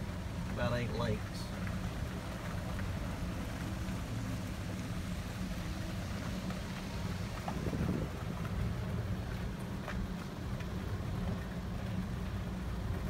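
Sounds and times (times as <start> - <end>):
vehicle rumbling on road: 0.0 - 13.0.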